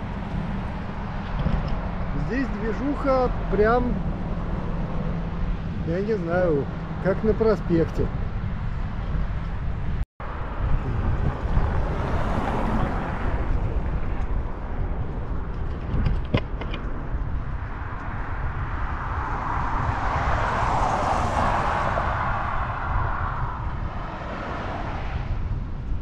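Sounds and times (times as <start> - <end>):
road traffic: 0.0 - 26.0
wind rumbling on microphone: 0.0 - 26.0.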